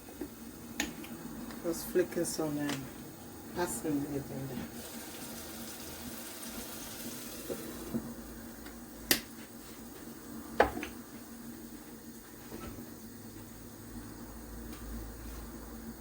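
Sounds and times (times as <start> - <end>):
pot simmering with hiss: 0.0 - 16.0.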